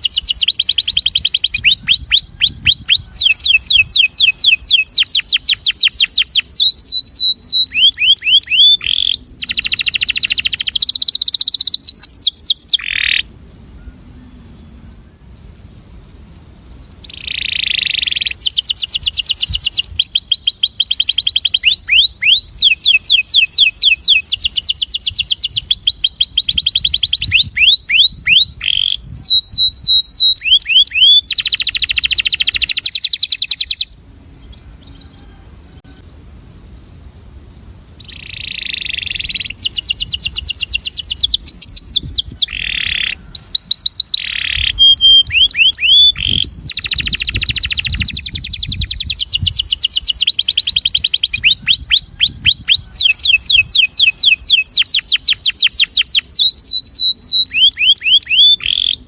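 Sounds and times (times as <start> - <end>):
canary singing trills: 0.0 - 36.6, 37.7 - 59.0.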